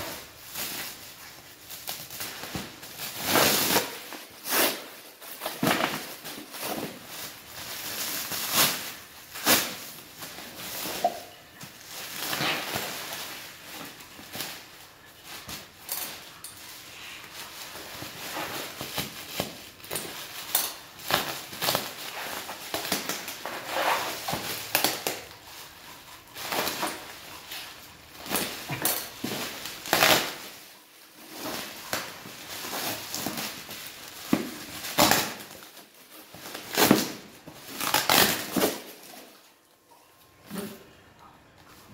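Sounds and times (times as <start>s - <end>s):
plastic wrap crinkling and rustling: 0.0s - 41.9s
scissors cutting wrapping: 1.8s - 14.5s, 15.1s - 30.6s, 31.2s - 39.3s.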